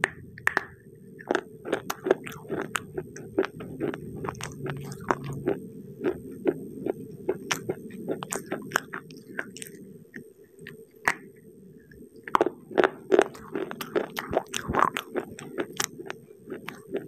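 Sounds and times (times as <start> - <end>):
crunching and chewing cookie: 0.4 - 11.3, 11.9 - 17.0.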